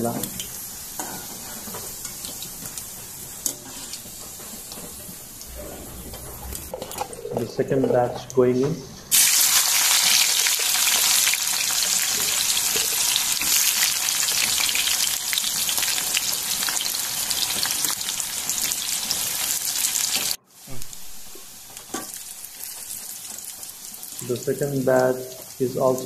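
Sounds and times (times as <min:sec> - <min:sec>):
vegetables sizzling in hot oil: 0:00.0 - 0:05.5, 0:09.1 - 0:26.0.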